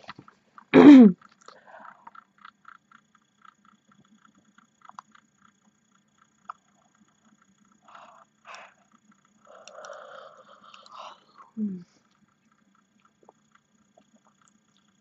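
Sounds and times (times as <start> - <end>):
mouth and jaw clicks: 0.0 - 5.6, 6.4 - 15.0
faint regular ticking: 0.0 - 15.0.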